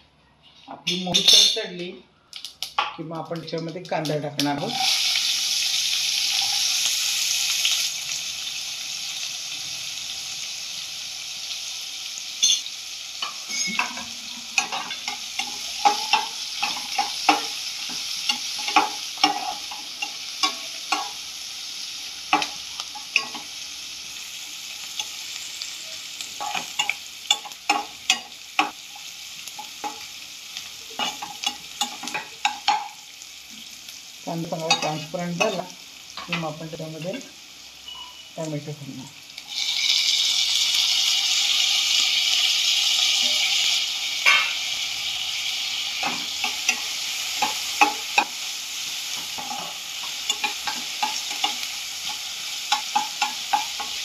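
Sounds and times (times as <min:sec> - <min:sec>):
onion sizzling in hot oil: 0:00.9 - 0:54.0.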